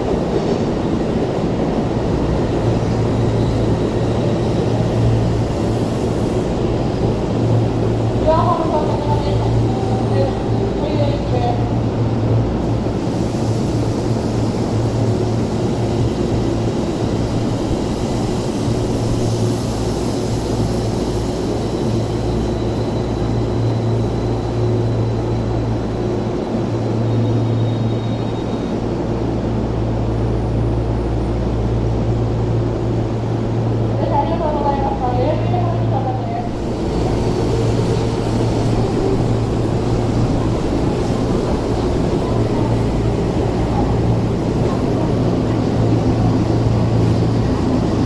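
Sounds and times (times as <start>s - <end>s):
electric train creeping to a stop: 0.0s - 11.9s, 12.6s - 48.0s
low train hum: 0.0s - 48.0s.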